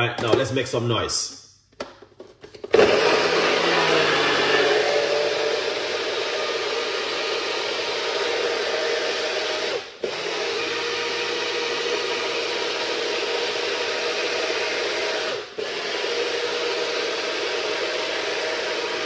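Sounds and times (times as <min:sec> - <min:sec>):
blender running: 0:02.7 - 0:19.0.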